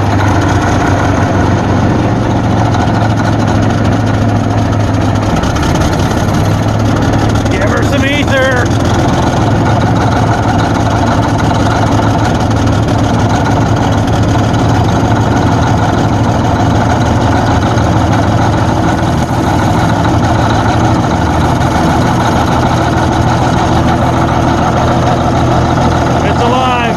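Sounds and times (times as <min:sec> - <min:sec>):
bulldozer engine idling: 0:00.0 - 0:26.9.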